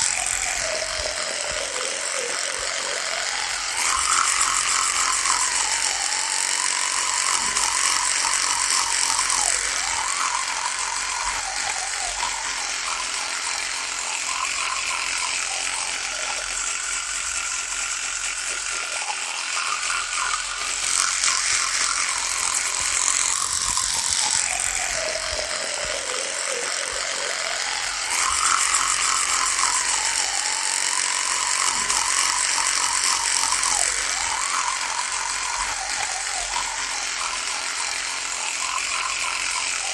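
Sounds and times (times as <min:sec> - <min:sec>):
electric toothbrush buzzing: 0:00.0 - 0:39.9.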